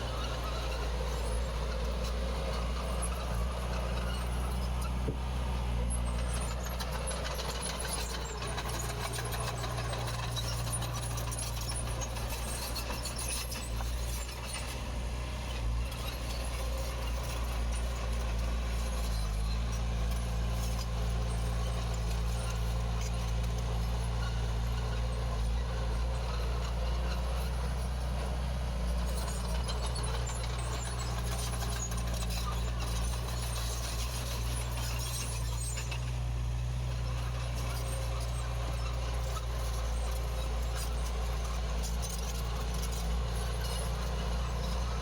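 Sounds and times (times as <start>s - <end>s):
heavy diesel engine under load: 0.0s - 45.0s.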